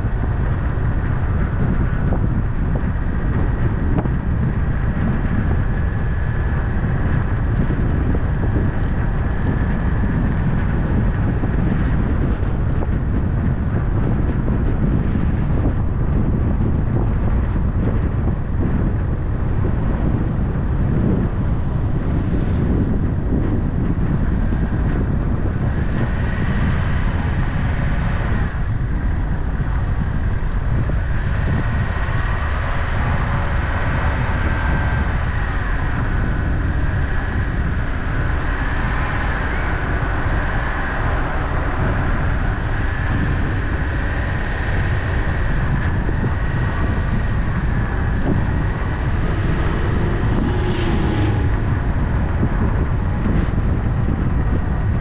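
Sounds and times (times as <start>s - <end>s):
car tyres and engine rumble: 0.0s - 55.0s
wind noise: 0.0s - 55.0s.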